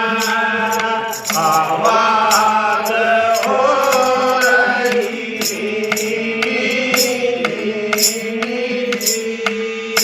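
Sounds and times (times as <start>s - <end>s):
man singing devotional song: 0.0s - 10.0s
steady percussion beat: 0.0s - 10.0s.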